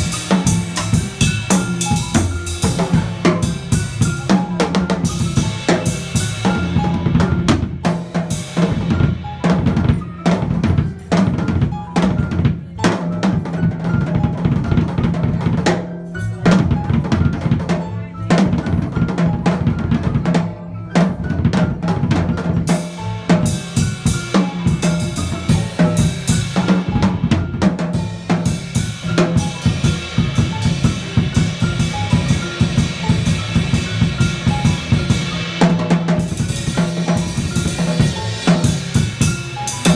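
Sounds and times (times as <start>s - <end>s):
jazz drum kit with sticks: 0.0s - 39.9s
upright bass notes: 0.0s - 39.9s.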